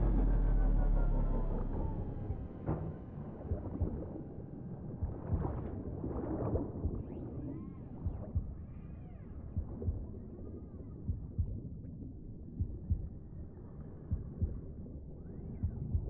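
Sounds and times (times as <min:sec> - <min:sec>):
low underwater rumble: 0:00.0 - 0:16.0
muffled heartbeat: 0:01.4 - 0:16.0.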